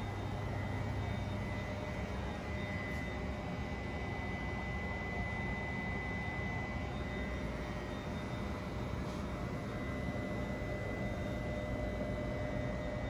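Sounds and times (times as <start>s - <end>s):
ventilation hum and rumble: 0.0s - 13.0s.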